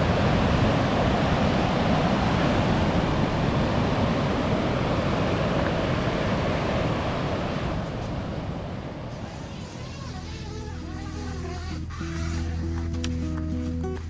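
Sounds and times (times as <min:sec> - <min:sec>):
sea surf on beach: 0:00.0 - 0:11.7
wind rumble on microphone: 0:00.0 - 0:12.0.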